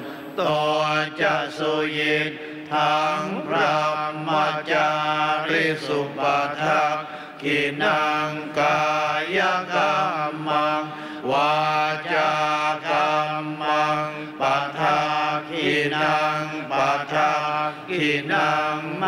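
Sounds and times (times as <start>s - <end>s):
monks chanting in unison: 0.0s - 19.0s.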